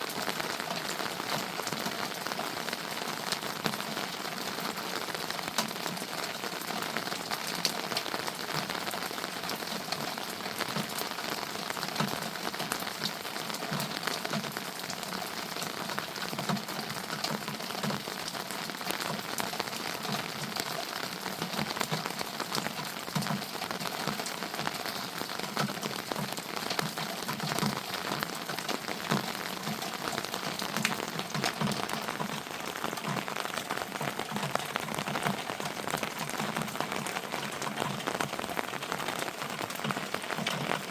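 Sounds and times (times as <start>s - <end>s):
rain falling: 0.0s - 40.9s
raindrops ticking: 0.0s - 40.9s.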